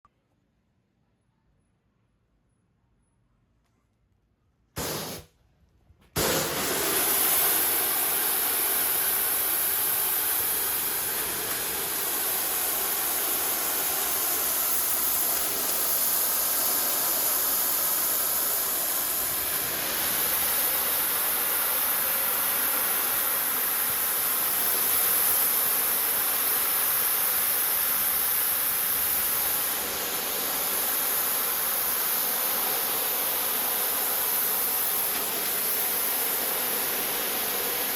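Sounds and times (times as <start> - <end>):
pressure washer spraying water: 4.8 - 5.3, 6.2 - 37.9.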